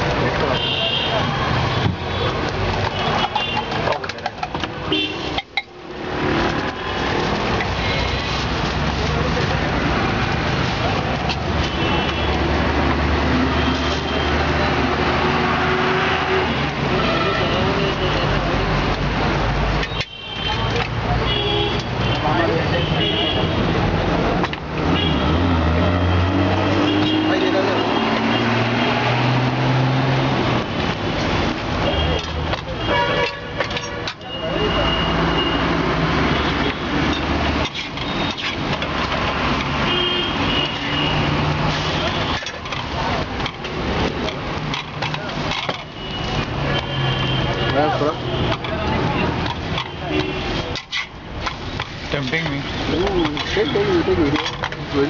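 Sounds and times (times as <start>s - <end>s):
passing traffic: 0.0s - 55.0s.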